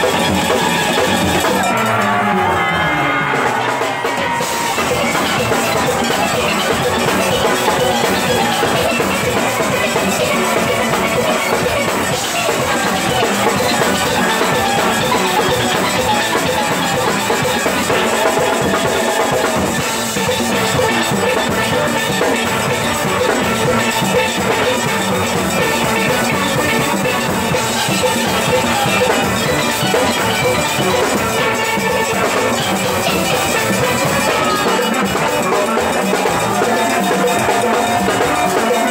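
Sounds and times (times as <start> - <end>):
drum kit: 0.0 - 38.9
steelpans playing: 0.0 - 38.9.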